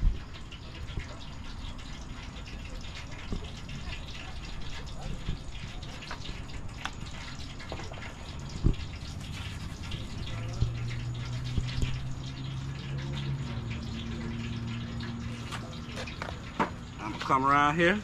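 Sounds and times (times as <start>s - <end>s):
seasoning patter from shaker: 0.0s - 17.5s
low steady hum: 0.0s - 18.0s.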